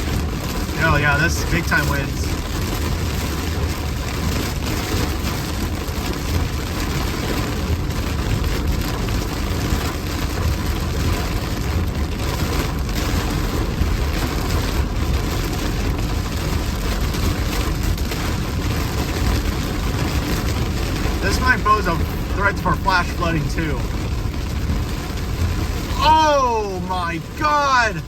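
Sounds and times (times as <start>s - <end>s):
storm wind and rain on car: 0.0s - 28.0s.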